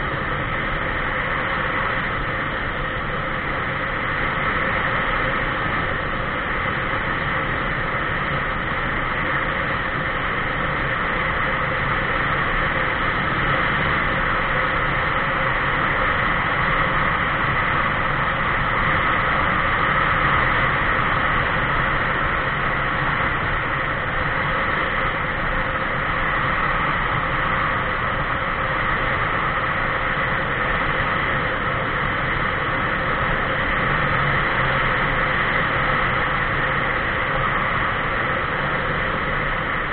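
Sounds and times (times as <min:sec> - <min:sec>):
constant drone: 0:00.0 - 0:39.9
road noise: 0:00.0 - 0:39.9.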